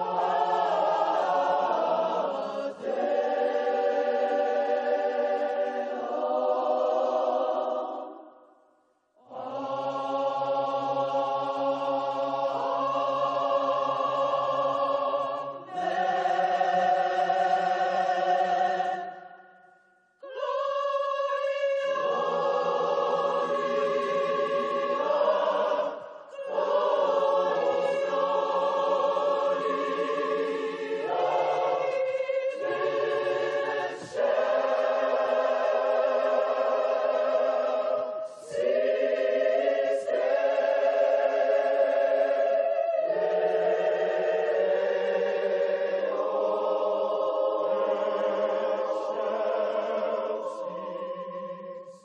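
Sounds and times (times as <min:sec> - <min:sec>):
choir singing held chords: 0:00.0 - 0:52.0.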